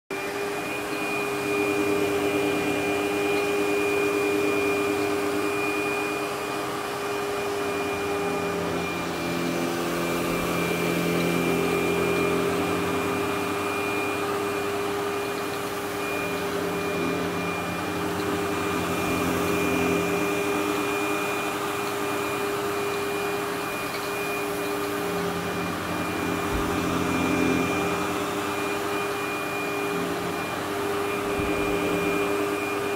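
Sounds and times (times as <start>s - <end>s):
vacuum cleaner whining: 0.1s - 32.9s.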